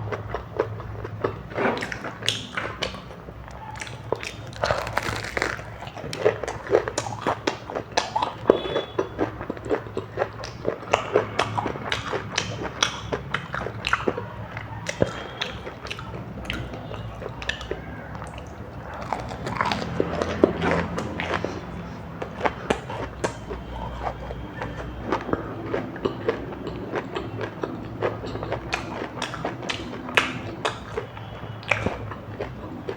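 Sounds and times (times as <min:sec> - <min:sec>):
chewing and biting: 0:00.0 - 0:32.9
wet clicks and smacks: 0:01.2 - 0:08.6, 0:09.9 - 0:32.9.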